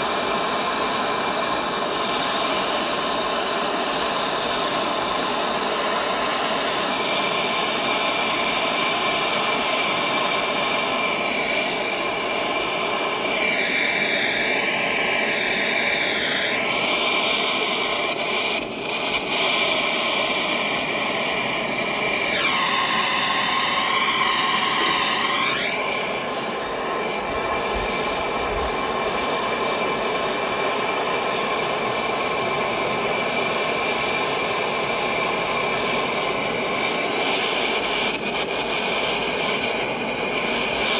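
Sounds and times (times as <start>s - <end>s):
gas torch flame rushing: 0.0s - 40.9s.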